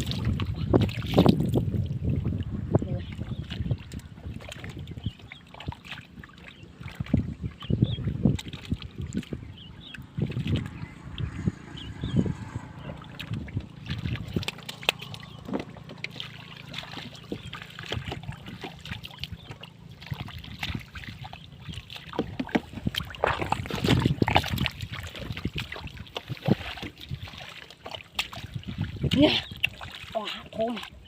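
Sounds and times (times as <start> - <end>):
hands splashing in muddy water: 0.0 - 31.0.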